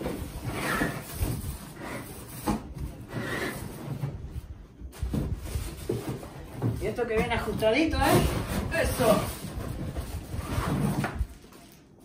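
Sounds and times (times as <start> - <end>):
cardboard scraping and rustling: 0.0 - 12.0.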